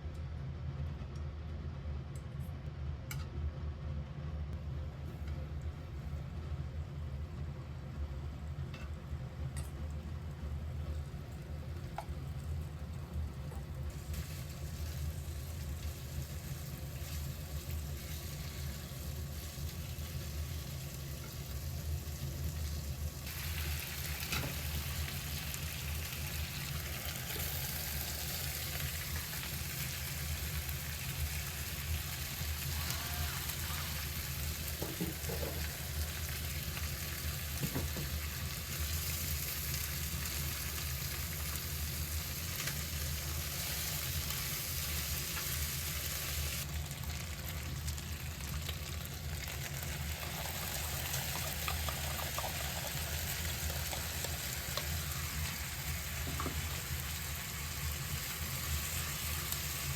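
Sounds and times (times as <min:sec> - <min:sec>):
food sizzling in a frying pan: 0:06.0 - 0:59.9.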